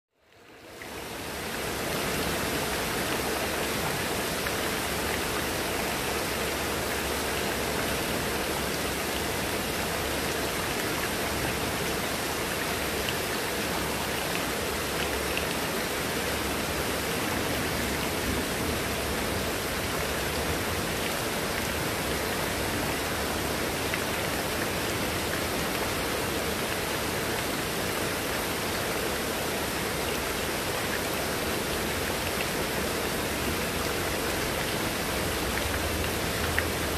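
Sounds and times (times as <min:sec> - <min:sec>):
heavy rain falling: 0:00.9 - 0:36.9.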